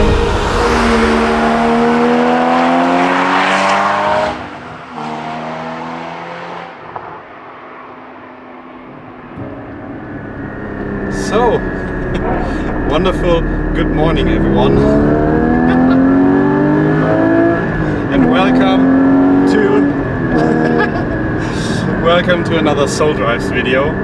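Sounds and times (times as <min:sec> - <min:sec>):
car engine pulling hard: 0:00.0 - 0:24.0.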